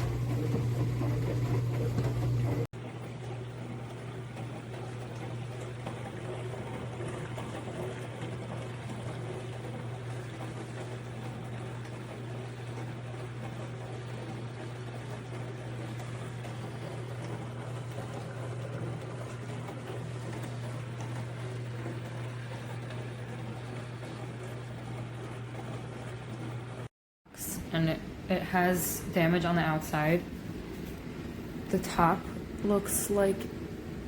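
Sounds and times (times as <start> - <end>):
dishwasher pump hum: 0.0 - 34.0.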